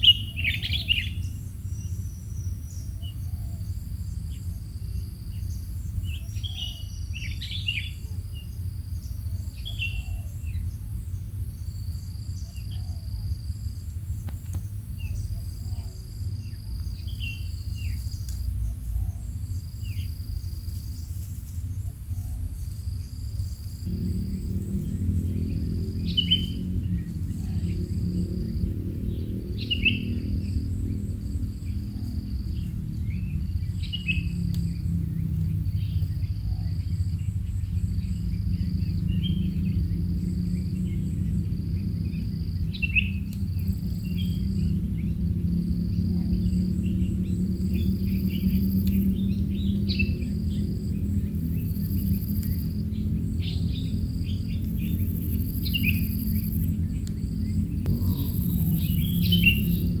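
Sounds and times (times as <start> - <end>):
insect chirping: 0.0 - 60.0
steady low hum: 0.0 - 60.0.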